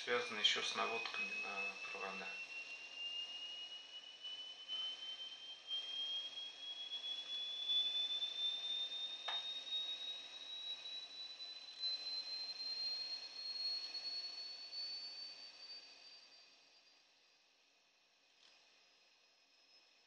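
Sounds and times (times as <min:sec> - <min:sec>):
rising pure test tone: 0:00.0 - 0:16.2
tape hiss: 0:00.0 - 0:17.0.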